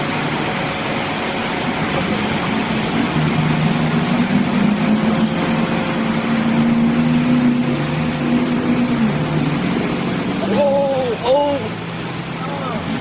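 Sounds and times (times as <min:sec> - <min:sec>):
heavy vehicle engine running: 0:00.0 - 0:13.0
loud rushing noise: 0:00.0 - 0:13.0.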